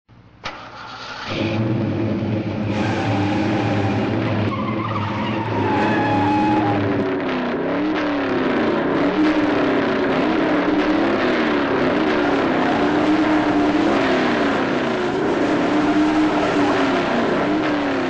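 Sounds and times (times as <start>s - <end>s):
race car engine revving: 1.0s - 18.0s
dense noisy rush: 1.6s - 18.0s.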